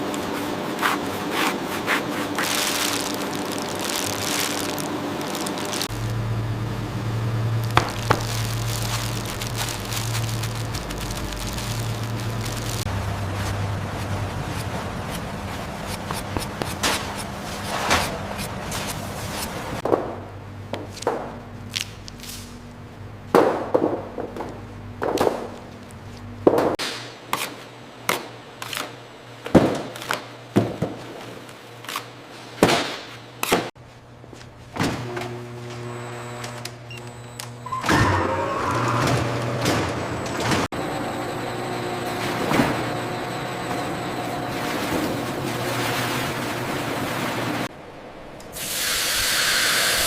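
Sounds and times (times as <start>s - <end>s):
low machine hum: 0.0s - 26.7s, 33.2s - 48.6s.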